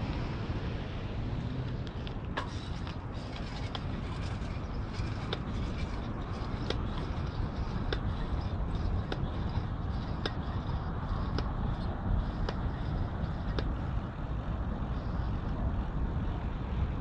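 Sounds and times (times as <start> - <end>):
bicycle rolling rumble: 0.0 - 17.0
wind on microphone: 0.0 - 17.0.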